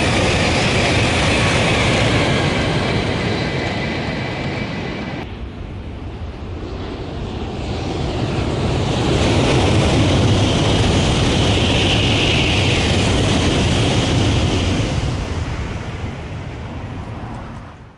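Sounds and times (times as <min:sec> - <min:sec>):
high-speed train passing: 0:00.0 - 0:17.9.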